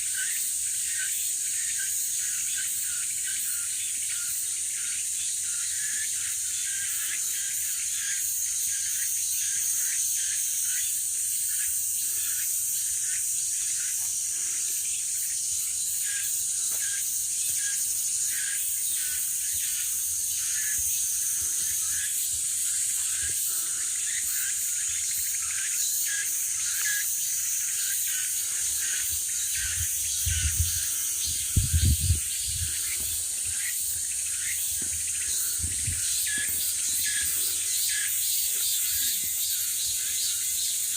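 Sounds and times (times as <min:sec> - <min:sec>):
forest insects droning: 0:00.0 - 0:40.9
insect chirps: 0:00.0 - 0:40.9.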